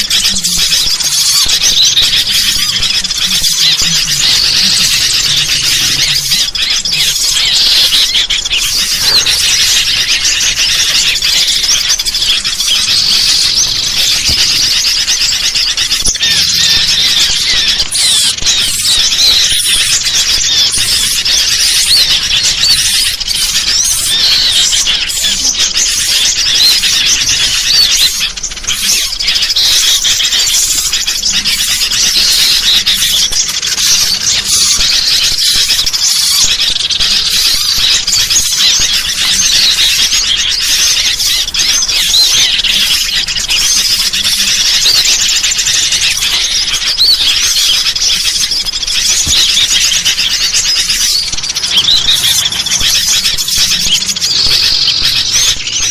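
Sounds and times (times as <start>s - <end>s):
bulbuls chattering: 0.0s - 55.9s
small birds chirping: 0.0s - 55.9s.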